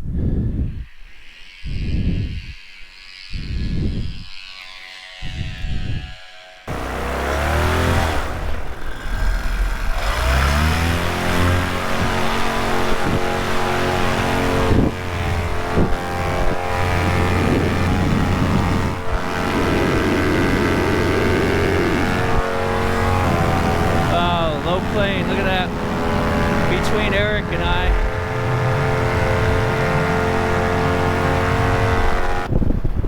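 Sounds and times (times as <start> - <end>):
two-stroke engine and propeller revving: 5.4 - 33.0.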